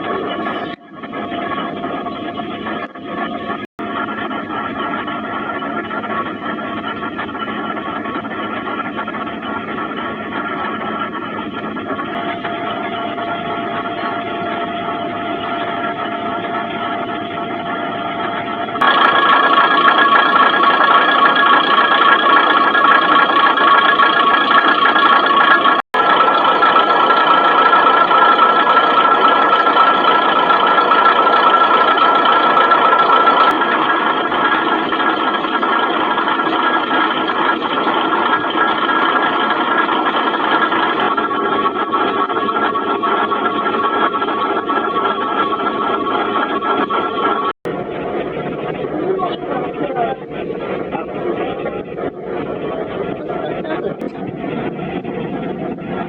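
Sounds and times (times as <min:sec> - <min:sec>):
diesel railcar engine running: 0:00.0 - 0:56.0.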